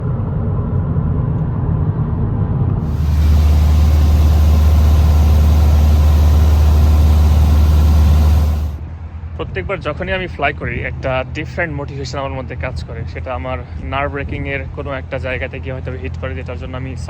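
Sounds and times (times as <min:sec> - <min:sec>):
light aircraft engine running: 0:00.0 - 0:17.0.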